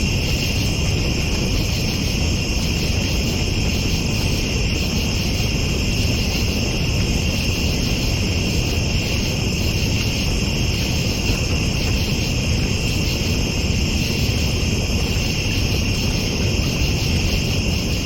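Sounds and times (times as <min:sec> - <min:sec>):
constant low rumble: 0:00.0 - 0:18.0
crickets and insects trilling: 0:00.0 - 0:18.0.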